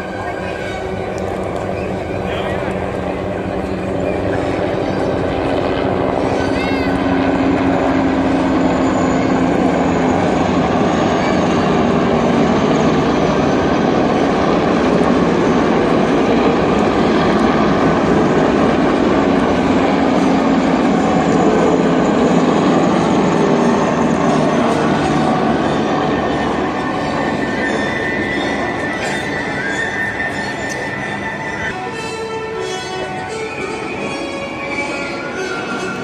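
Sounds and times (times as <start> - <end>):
helicopters flying overhead: 0.0 - 36.0.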